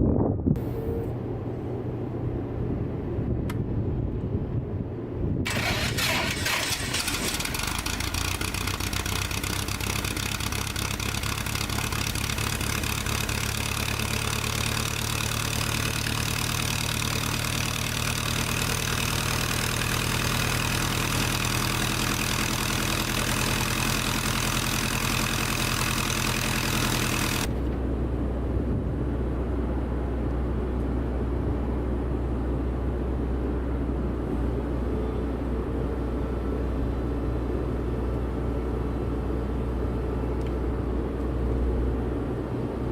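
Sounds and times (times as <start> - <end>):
engine running: 0.6 - 4.3, 5.4 - 42.9.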